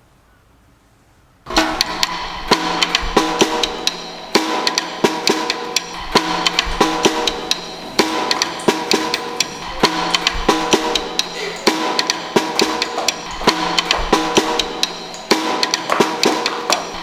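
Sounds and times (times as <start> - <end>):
rhythmic percussion music: 1.5 - 17.0.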